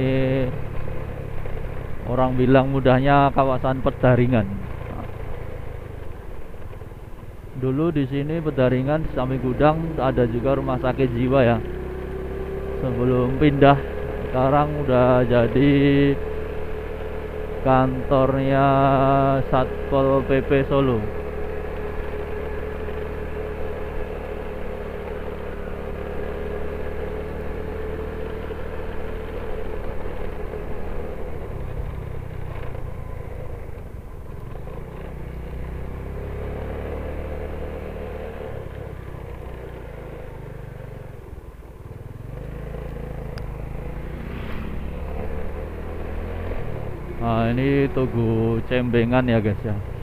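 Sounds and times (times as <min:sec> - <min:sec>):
motorcycle engine hum: 0:00.0 - 0:50.0
road noise: 0:00.0 - 0:50.0.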